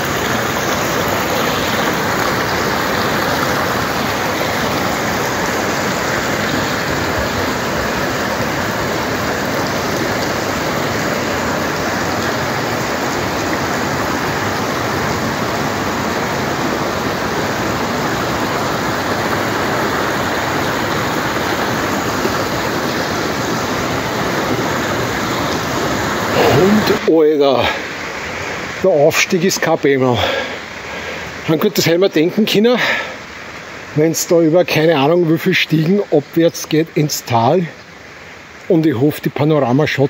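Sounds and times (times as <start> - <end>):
creek rushing over rocks: 0.0 - 40.0.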